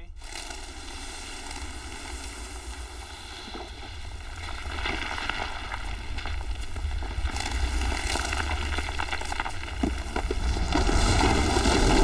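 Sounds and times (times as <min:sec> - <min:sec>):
low rumbling: 0:00.0 - 0:12.0
sand and soil rushing: 0:00.0 - 0:12.0.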